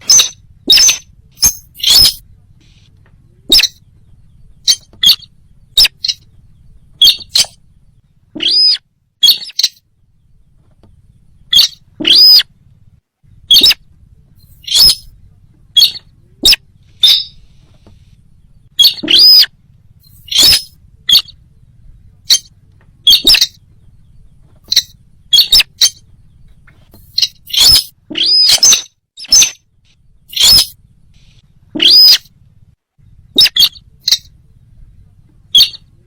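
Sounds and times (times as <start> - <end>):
short sharp bird calls: 0.0 - 6.4, 7.0 - 7.6, 8.3 - 9.8, 11.4 - 12.5, 13.4 - 15.2, 15.8 - 21.4, 22.2 - 32.4, 33.2 - 34.4, 35.5 - 35.9.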